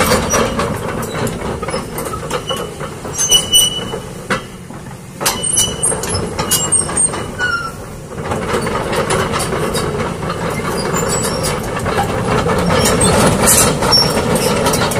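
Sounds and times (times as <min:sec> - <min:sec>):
excavator engine running: 0:00.0 - 0:14.9
steel track links clattering: 0:00.0 - 0:14.9
high track squeaks: 0:00.2 - 0:04.5, 0:05.3 - 0:08.0, 0:09.7 - 0:14.9.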